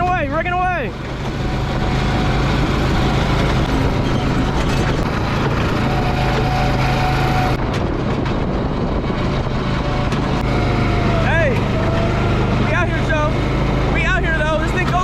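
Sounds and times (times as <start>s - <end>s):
go-kart motor hum: 0.8s - 15.0s.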